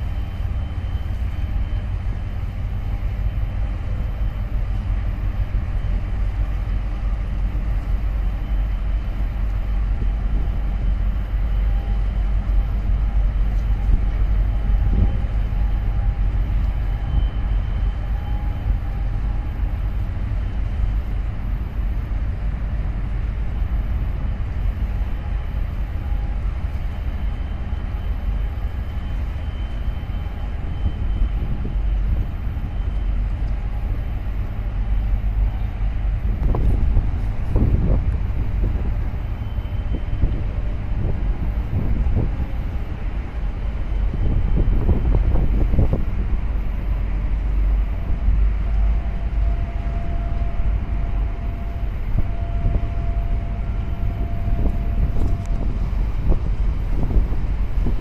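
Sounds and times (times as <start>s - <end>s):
boat engine rumble: 0.0s - 58.0s.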